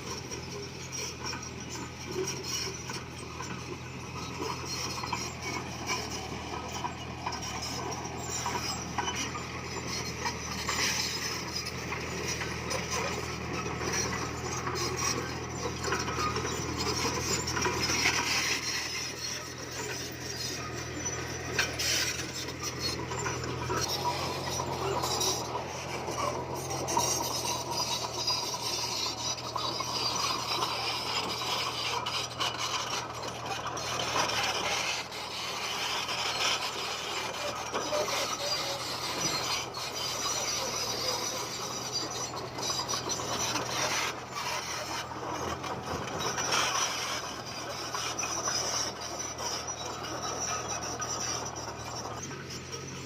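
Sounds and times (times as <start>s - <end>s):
low engine hum: 0.0s - 53.0s
rock grinding and scraping: 0.0s - 53.0s.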